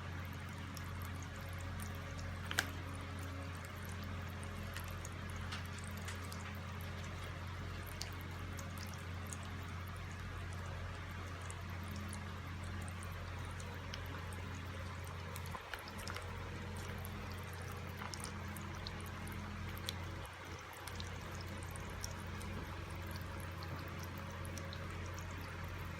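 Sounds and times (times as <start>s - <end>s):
faint ticks and splashes: 0.0s - 25.9s.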